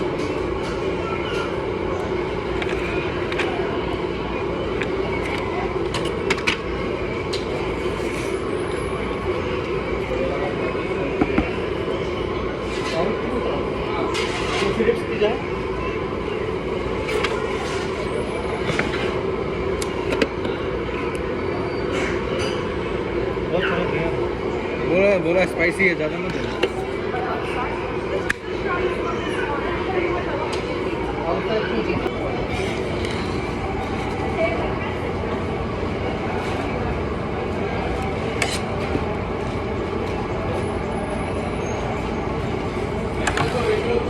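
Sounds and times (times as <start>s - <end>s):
street traffic hum: 0.0s - 44.0s.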